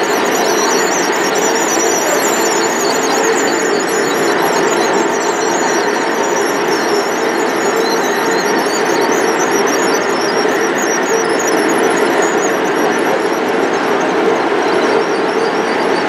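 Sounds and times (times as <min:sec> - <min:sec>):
model train running: 0:00.0 - 0:16.0
wheels squealing on rails: 0:00.0 - 0:16.0.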